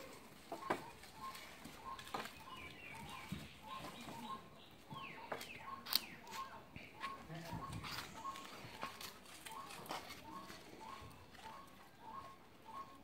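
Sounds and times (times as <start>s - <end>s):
small bird chirping: 0.5s - 13.0s.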